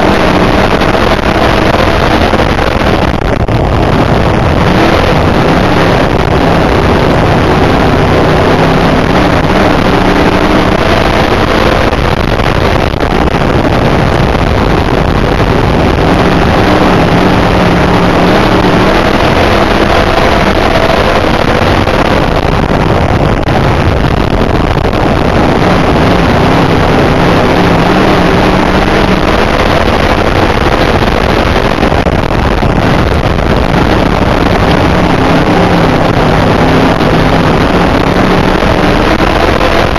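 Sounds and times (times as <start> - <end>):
race car engine revving: 0.0 - 39.9
wind buffeting microphone: 0.0 - 39.9.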